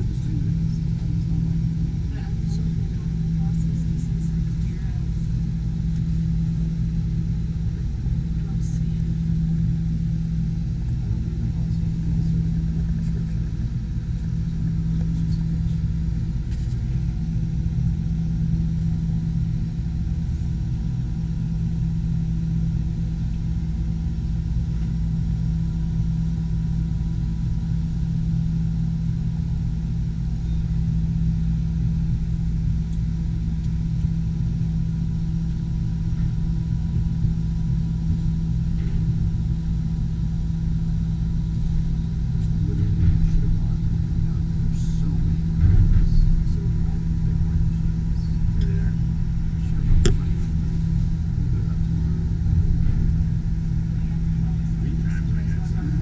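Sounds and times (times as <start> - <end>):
faint higher whine: 0.0 - 56.0
low mechanical hum: 0.0 - 56.0.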